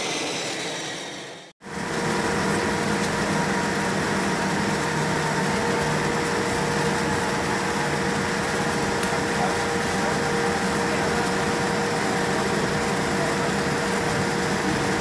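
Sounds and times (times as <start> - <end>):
aircraft cabin engine hum and whine: 0.0 - 15.0.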